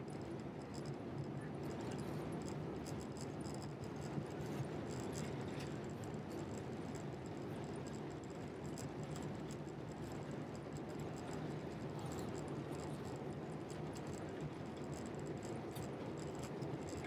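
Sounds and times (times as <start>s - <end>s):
faint rattling ticks: 0.1s - 17.0s.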